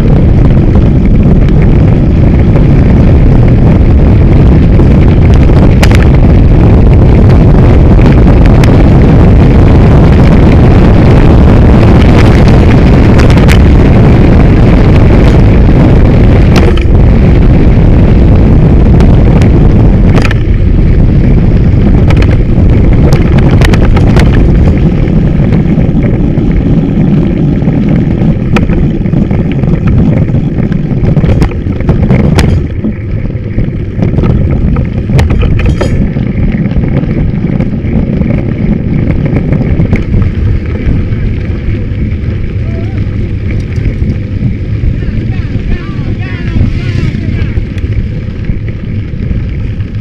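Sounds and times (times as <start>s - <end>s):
bike rattling and knocking: 0.0s - 6.7s, 14.6s - 18.6s, 19.2s - 50.0s
wind buffeting microphone: 0.0s - 50.0s.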